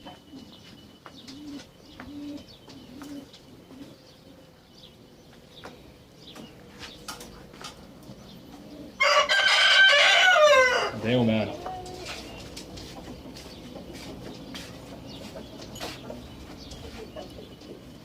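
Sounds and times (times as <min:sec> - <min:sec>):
pigeons cooing: 0:00.0 - 0:18.0
small birds chirping: 0:00.0 - 0:18.0.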